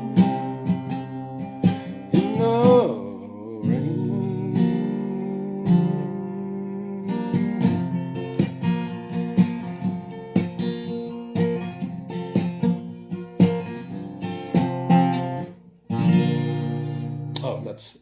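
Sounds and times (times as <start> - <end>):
acoustic guitar strumming: 0.0 - 17.7.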